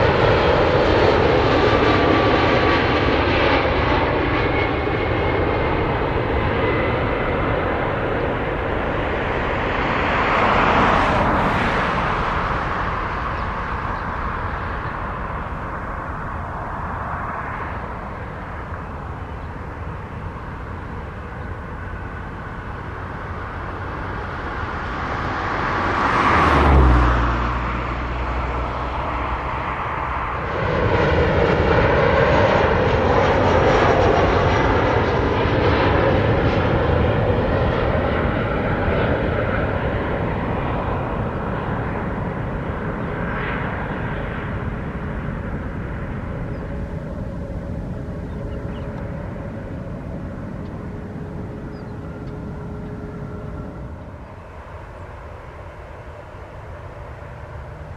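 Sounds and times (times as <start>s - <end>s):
high engine whine: 0.0s - 57.9s
jet airliner engine noise: 0.0s - 57.9s.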